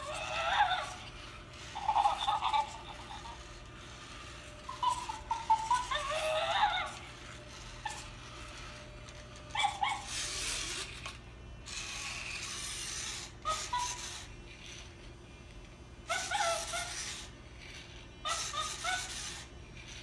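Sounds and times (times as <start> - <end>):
toy motors whirring: 0.0 - 20.0.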